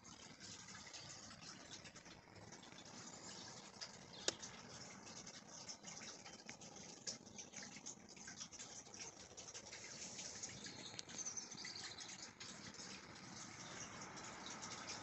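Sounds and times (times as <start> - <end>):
small crackling ticks: 0.0 - 15.0.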